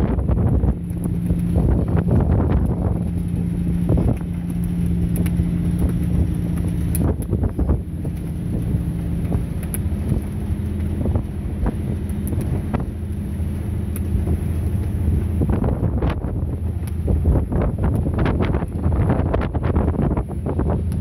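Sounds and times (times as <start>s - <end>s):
boat diesel engine humming: 0.0s - 21.0s
wind buffeting microphone: 0.0s - 21.0s.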